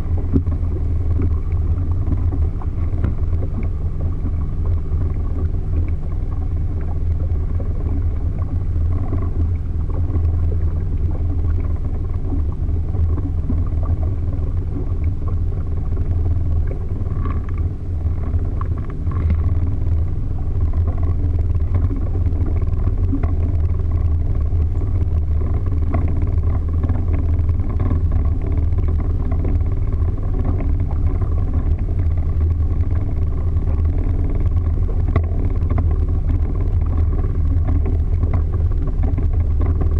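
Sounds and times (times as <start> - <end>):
motorboat engine droning: 0.0 - 39.9
water noise from hull: 0.0 - 39.9.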